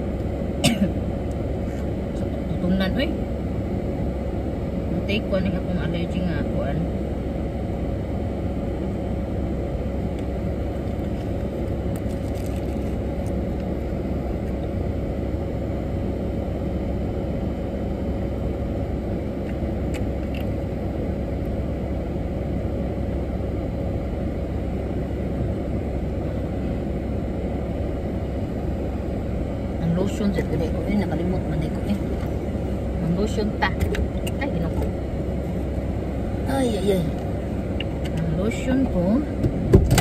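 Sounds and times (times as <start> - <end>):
engine idling rumble: 0.0 - 40.0.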